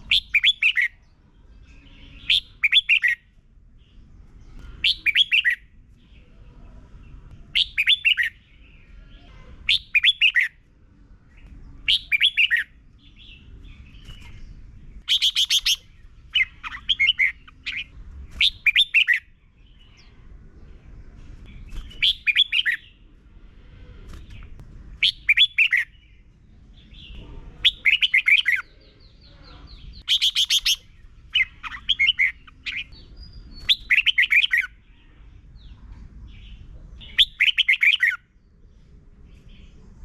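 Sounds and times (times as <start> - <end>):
bird singing quick phrases: 0.0 - 6.4, 7.0 - 10.6, 11.2 - 20.7, 21.4 - 23.1, 23.9 - 38.6.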